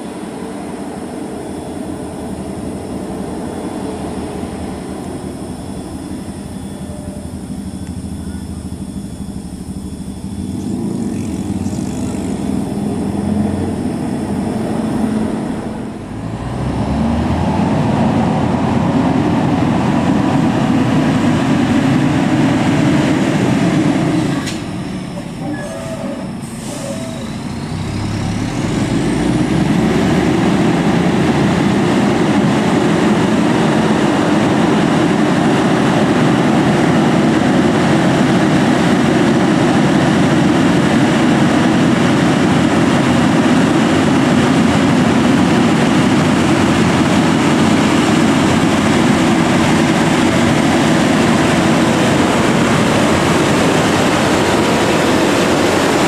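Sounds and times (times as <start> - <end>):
heavy truck engine under load: 0.0 - 56.0.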